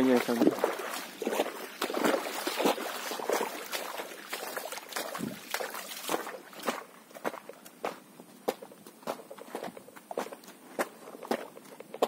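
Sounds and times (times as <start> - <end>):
footsteps wading through water: 0.0 - 12.0.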